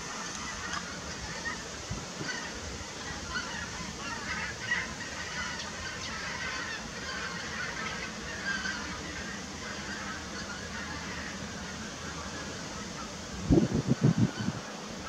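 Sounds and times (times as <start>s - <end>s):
geese honking in flight: 0.0s - 15.0s.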